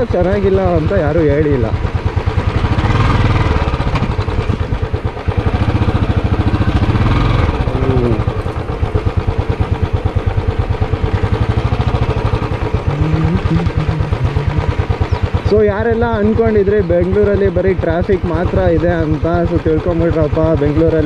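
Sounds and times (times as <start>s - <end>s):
motorcycle engine running slowly: 0.0s - 21.0s.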